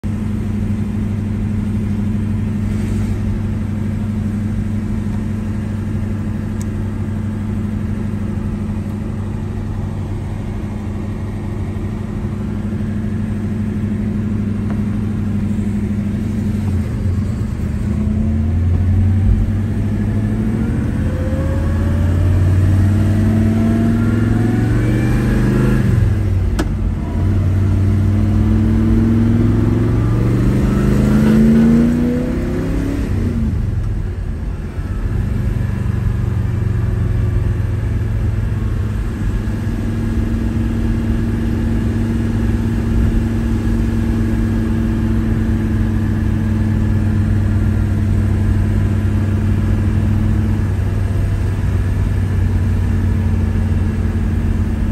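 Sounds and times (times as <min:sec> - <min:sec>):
car engine revving: 0:00.4 - 0:54.9.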